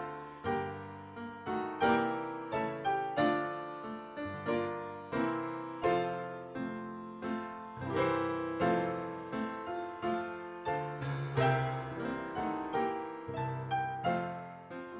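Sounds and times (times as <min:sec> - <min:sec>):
piano music: 0:00.0 - 0:14.9.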